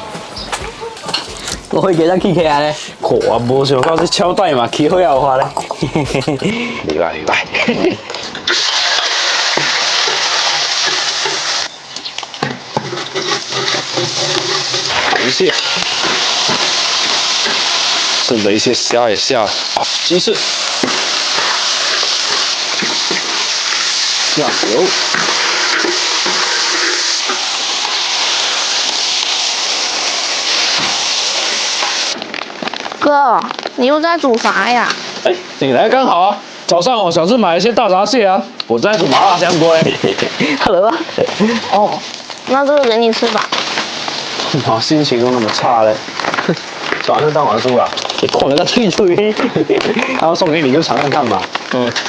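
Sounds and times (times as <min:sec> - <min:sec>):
food sizzling in hot oil: 0:00.0 - 0:06.6, 0:07.5 - 0:52.0.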